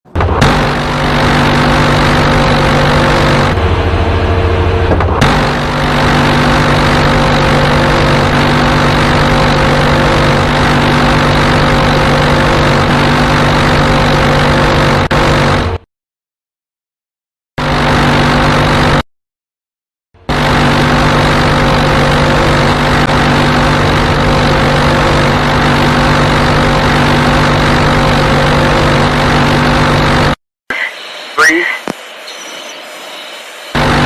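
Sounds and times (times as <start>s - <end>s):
engine roar: 0.0s - 15.9s, 17.6s - 19.0s, 20.2s - 34.0s.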